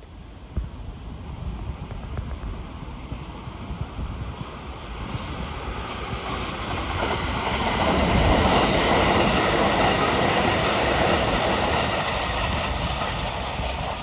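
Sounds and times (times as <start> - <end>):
electric train passing at speed: 0.0 - 14.0.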